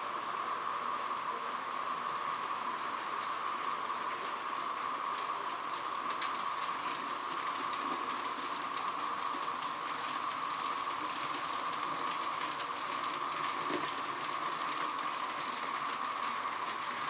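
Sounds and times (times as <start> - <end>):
model train high-pitched whine: 0.0 - 17.0
wheels running on rails: 0.0 - 17.0.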